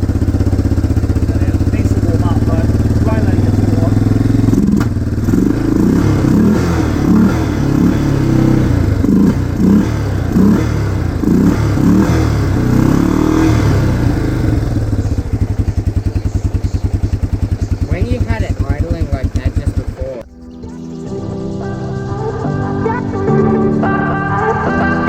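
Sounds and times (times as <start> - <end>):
quad bike engine revving: 0.0 - 25.0.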